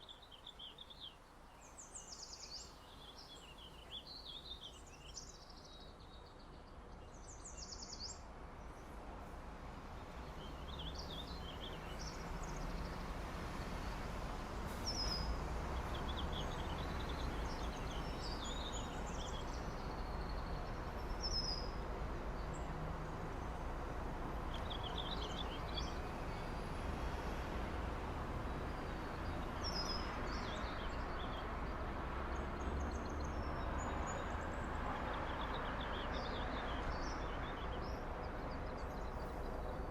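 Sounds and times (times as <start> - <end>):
low city rumble: 0.6 - 39.9.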